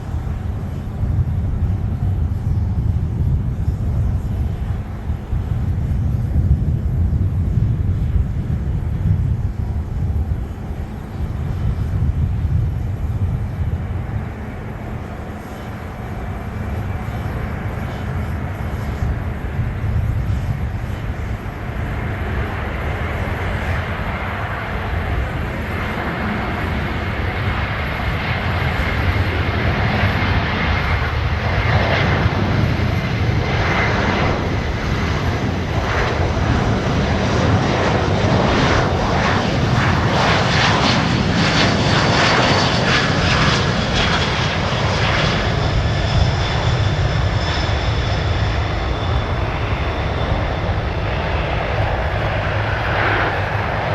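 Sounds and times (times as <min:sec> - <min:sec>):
high jet whine: 0:00.0 - 0:53.9
jet engine rumble: 0:00.0 - 0:53.9.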